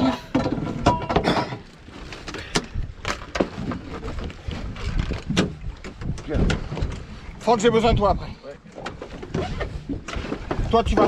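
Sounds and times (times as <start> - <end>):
knocks and thumps on boat: 0.0 - 11.0
wind and water rumble: 0.0 - 11.0.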